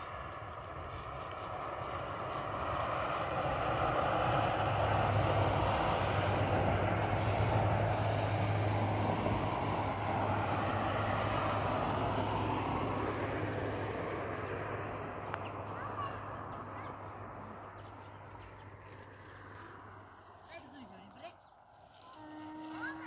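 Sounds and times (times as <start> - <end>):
vehicle engine hum and tyre noise: 0.0 - 23.0.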